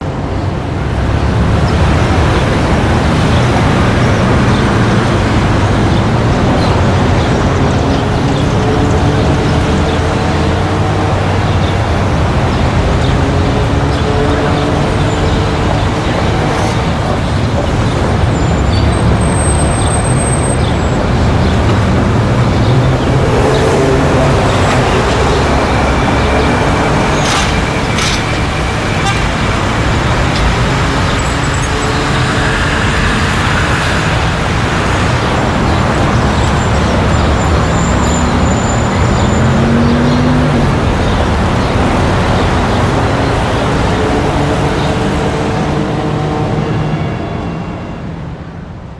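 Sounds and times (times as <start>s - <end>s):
vehicle engines and tyres: 0.0s - 48.9s
car horns: 0.8s - 48.3s.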